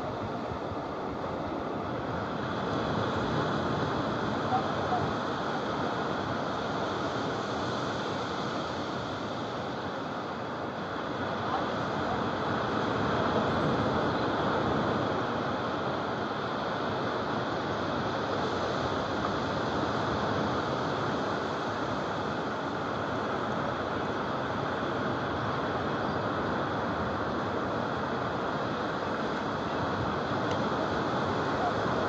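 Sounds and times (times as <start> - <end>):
surf washing on sandy beach: 0.0 - 32.0.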